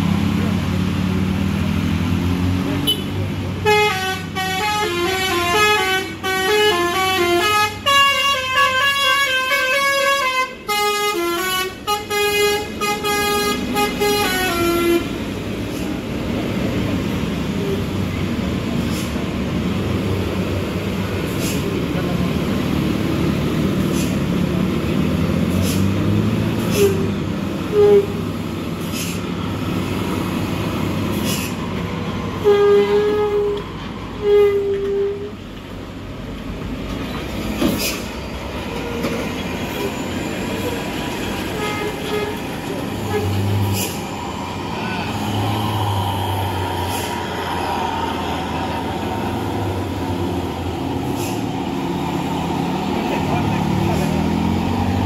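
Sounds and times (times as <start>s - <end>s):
heavy truck engines rumbling: 0.0s - 55.0s.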